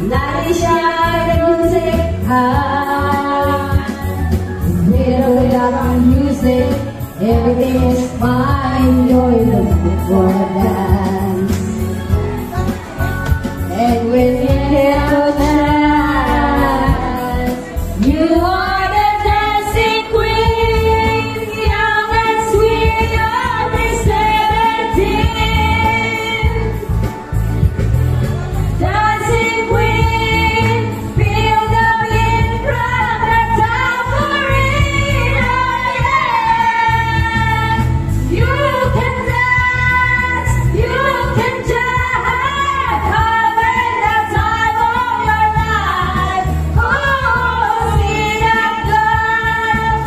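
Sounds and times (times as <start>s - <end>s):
pop backing track with beat: 0.0s - 50.0s
women singing into microphones: 0.0s - 50.0s.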